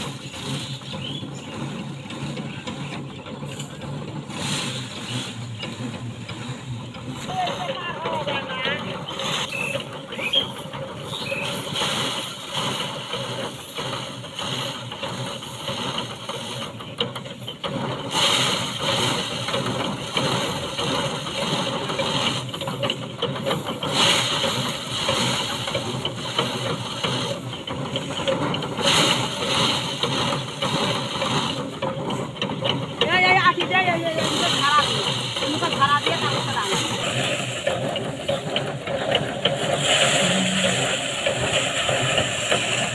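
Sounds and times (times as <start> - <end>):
rice thresher mechanical clatter: 0.0 - 42.9.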